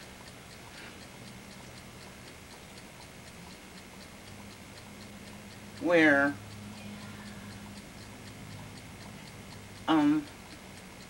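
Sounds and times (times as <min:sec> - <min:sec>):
faint steady ticking: 0:00.0 - 0:11.0
low steady hum: 0:00.0 - 0:11.0.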